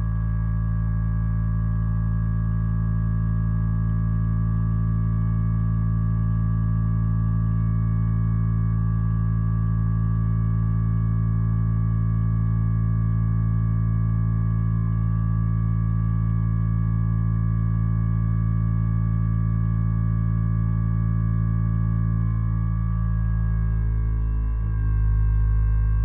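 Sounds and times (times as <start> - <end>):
vibrating roller motor hum: 0.0 - 3.0, 4.0 - 26.0.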